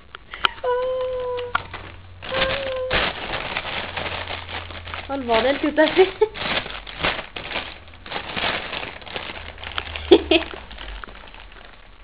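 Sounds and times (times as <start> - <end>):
plastic bag rustling: 0.6 - 12.0.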